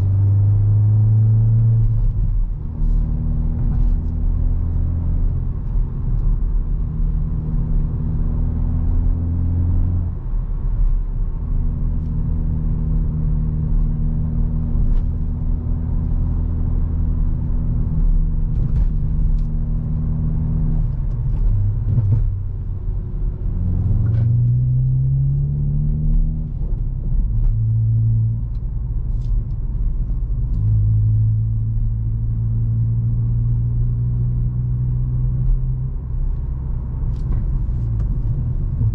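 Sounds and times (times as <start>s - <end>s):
car engine and exhaust: 0.0s - 38.9s
tyre and road rumble: 0.0s - 38.9s.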